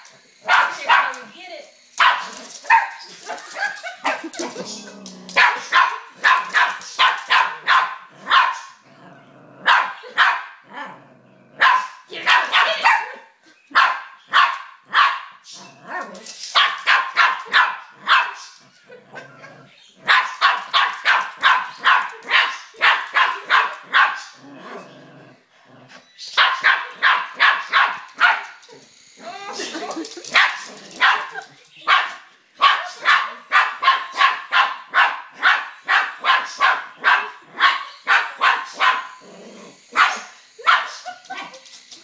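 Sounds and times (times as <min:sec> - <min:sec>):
small dogs barking: 0:00.4 - 0:01.3, 0:02.0 - 0:04.7, 0:05.3 - 0:08.8, 0:09.6 - 0:10.9, 0:11.5 - 0:24.4, 0:26.3 - 0:41.7.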